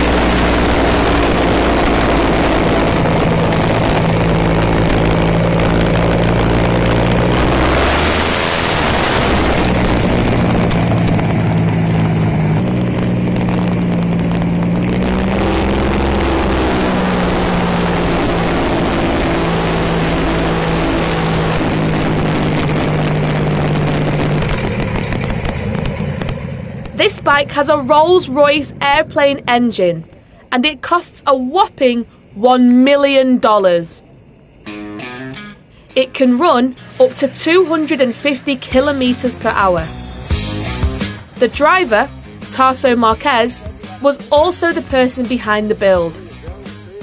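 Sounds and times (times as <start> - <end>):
motorcycle engine revving: 0.0 - 29.8, 36.4 - 47.0.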